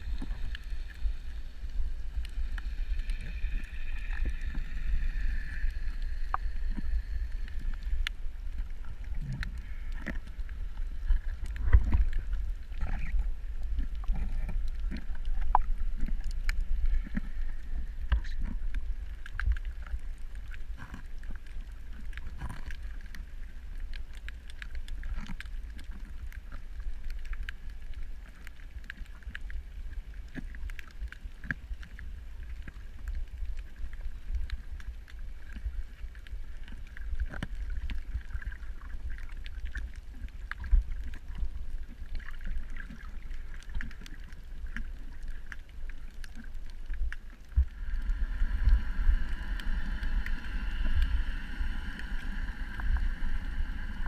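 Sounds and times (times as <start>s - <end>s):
sharp clicks and crackles: 0.0s - 54.0s
underwater water rumble: 0.0s - 54.0s.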